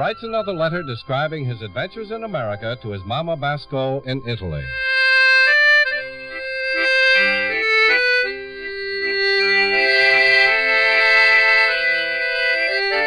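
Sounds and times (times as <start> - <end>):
accordion melody: 0.0 - 3.3, 4.3 - 13.0.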